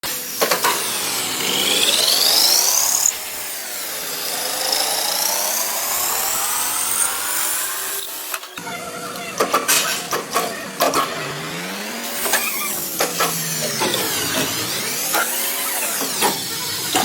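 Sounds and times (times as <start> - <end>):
cnc machine cutting metal: 0.0 - 17.0.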